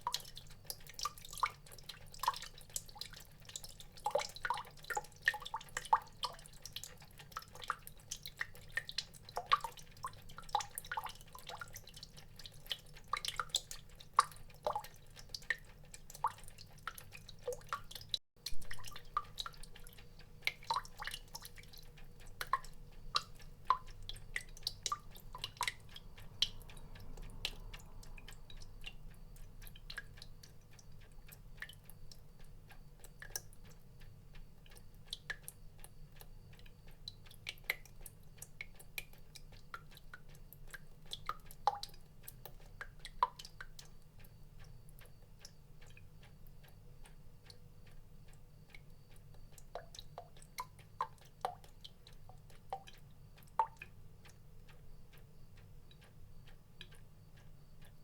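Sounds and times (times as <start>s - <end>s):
water drops dripping: 0.0s - 58.0s.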